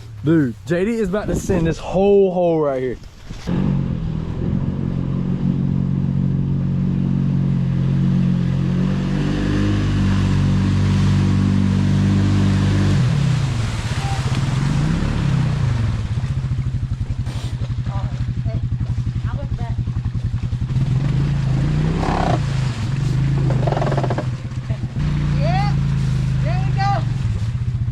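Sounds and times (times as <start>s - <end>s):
atv engine running and revving: 3.4s - 27.9s.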